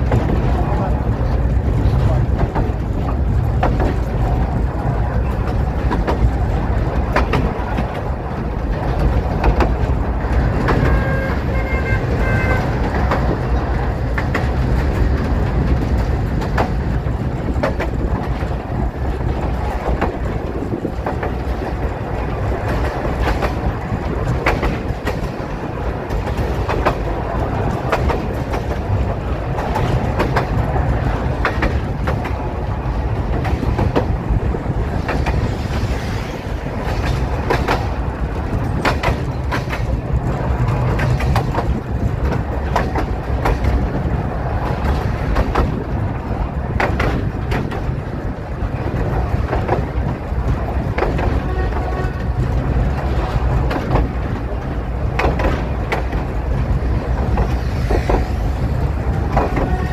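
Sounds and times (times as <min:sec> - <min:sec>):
train carriage rumble: 0:00.0 - 0:59.9
wheels clacking over rail joints: 0:00.0 - 0:59.9.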